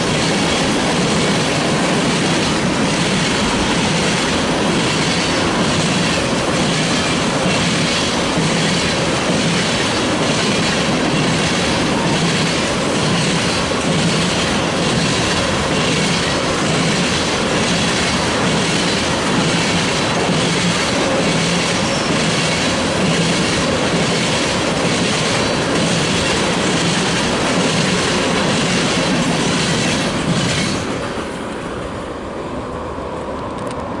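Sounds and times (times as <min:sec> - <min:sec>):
steel wheels clicking over rail joints: 0:00.0 - 0:31.2
freight train rolling rumble: 0:00.0 - 0:34.0.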